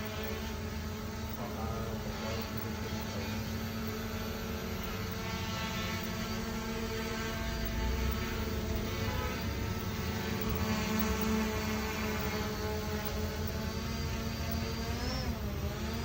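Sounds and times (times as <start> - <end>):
drone propellers humming: 0.0 - 16.0.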